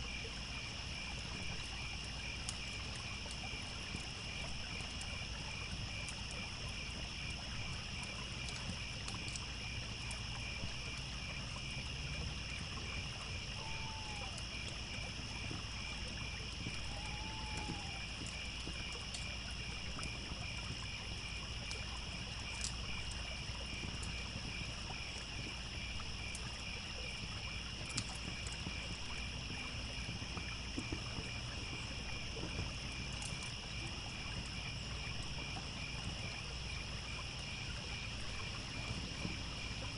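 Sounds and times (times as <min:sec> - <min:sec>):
campfire crackling: 0:00.0 - 0:39.9
crickets chirping: 0:00.0 - 0:39.9
trickling stream: 0:00.0 - 0:39.9.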